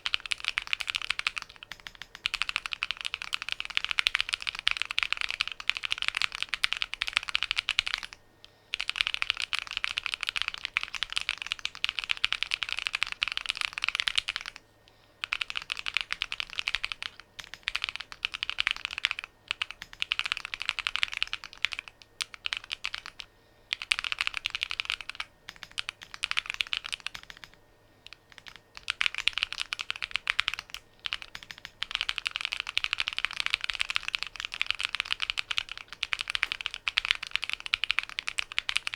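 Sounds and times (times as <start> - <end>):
fast mechanical keyboard typing: 0.0 - 14.6, 15.2 - 38.9.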